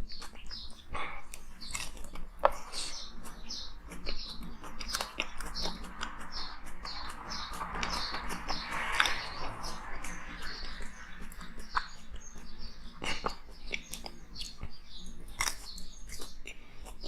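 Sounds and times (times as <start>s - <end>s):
chewing and crunching ice: 0.0s - 9.2s, 10.0s - 17.0s
bird chirping: 0.0s - 17.0s.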